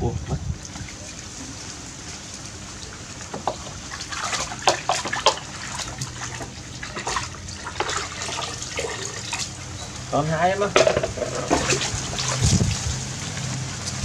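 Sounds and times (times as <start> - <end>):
water splashing in a plastic basin: 2.7 - 14.0.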